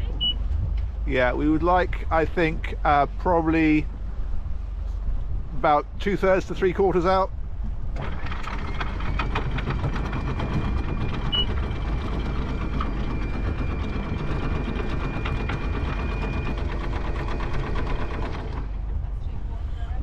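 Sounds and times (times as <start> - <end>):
windlass motor whine: 0.0 - 19.9.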